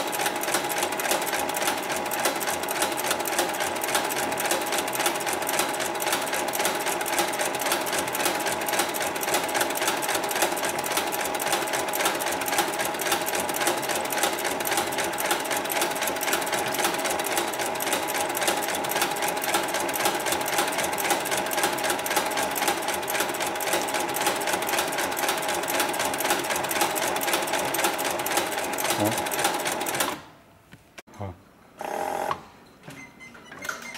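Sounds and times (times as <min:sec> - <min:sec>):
sewing machine running: 0:00.0 - 0:30.2, 0:31.8 - 0:32.4.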